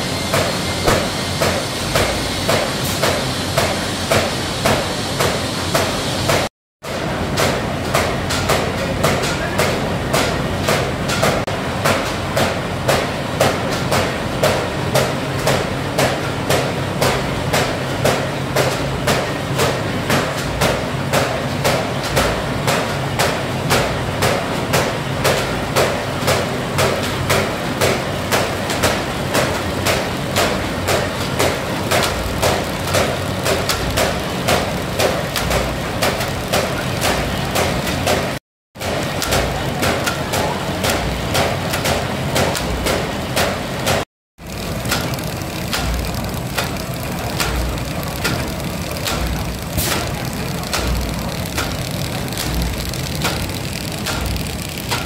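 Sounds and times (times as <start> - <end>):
machine knocking: 0.0 - 55.0
paper bag machine humming: 0.0 - 55.0.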